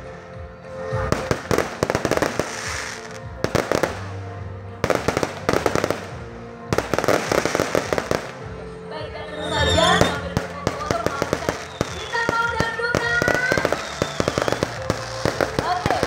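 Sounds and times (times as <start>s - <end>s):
music: 0.0s - 16.0s
fireworks bursting and crackling: 1.0s - 8.6s, 10.0s - 16.0s.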